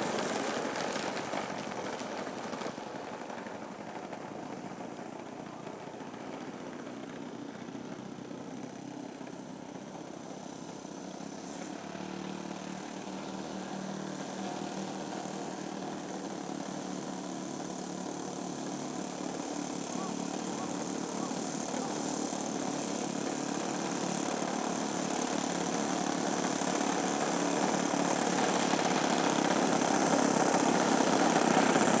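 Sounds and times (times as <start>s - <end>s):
model airplane engines running: 0.0s - 32.0s.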